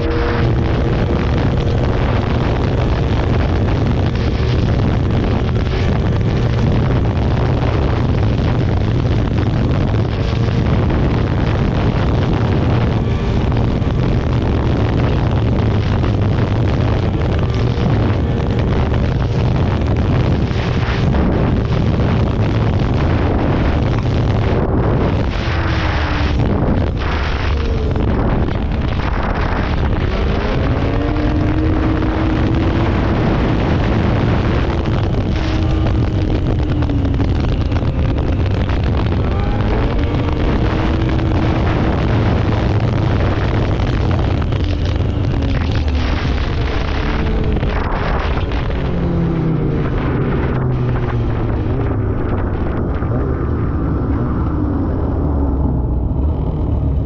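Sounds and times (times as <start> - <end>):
snowmobile engine running hard: 0.0 - 57.0
wind buffeting microphone: 0.0 - 57.0.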